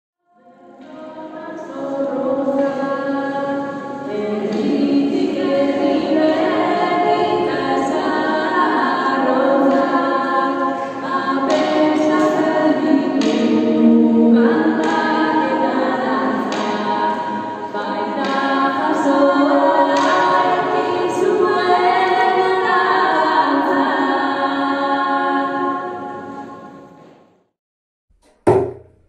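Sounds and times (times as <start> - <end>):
two women singing: 0.2 - 26.8.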